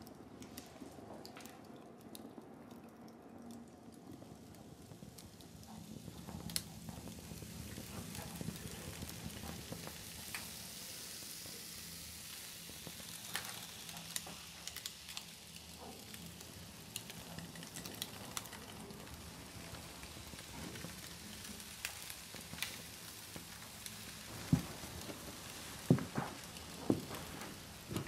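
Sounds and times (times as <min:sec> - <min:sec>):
paper burning crackle: 0:00.0 - 0:28.0.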